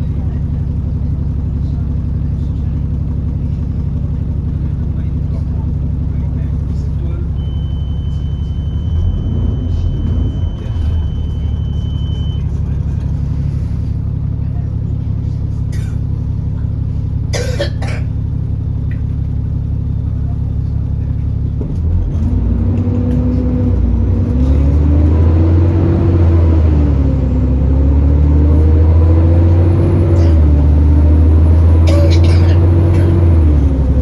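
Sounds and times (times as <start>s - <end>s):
bus engine idling and accelerating: 0.0s - 34.0s.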